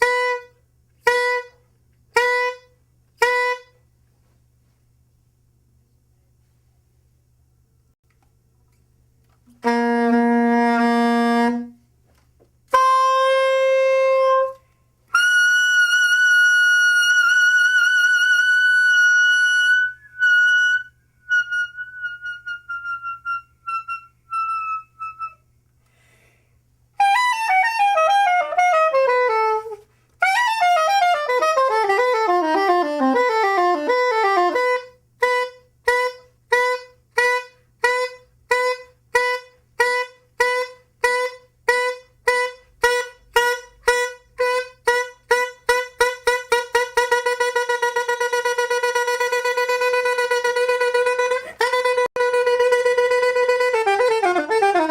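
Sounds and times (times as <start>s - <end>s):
soprano saxophone improvising: 0.0s - 3.8s, 9.4s - 11.8s, 12.7s - 25.4s, 27.0s - 54.9s.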